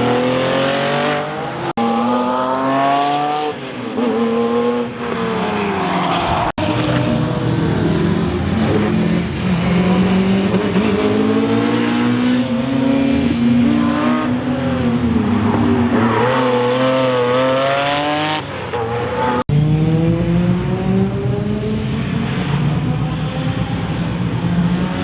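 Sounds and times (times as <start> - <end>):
rally car engine at full throttle: 0.0 - 25.0.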